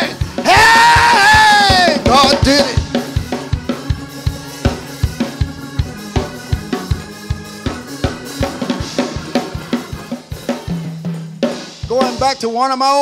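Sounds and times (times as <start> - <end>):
drum kit fast beat: 0.0 - 13.0.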